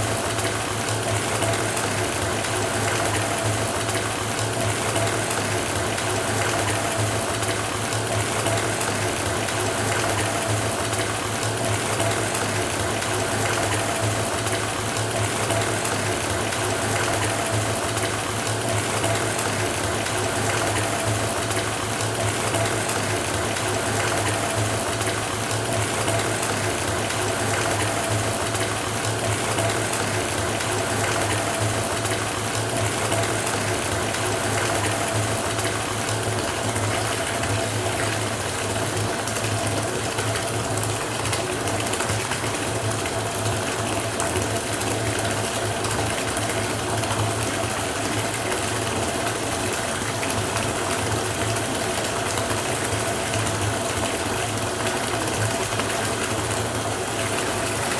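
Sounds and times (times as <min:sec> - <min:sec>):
tap water filling bathtub: 0:00.0 - 0:57.9.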